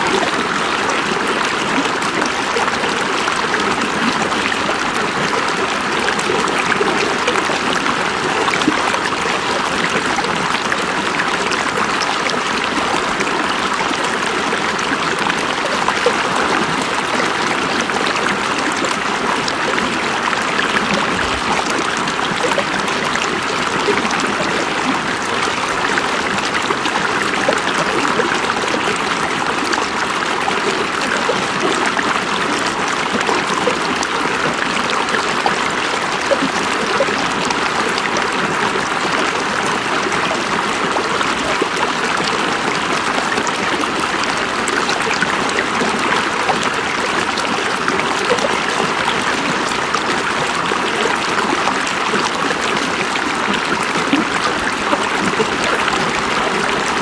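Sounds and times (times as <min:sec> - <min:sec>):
river water babbling over rocks: 0:00.0 - 0:57.0.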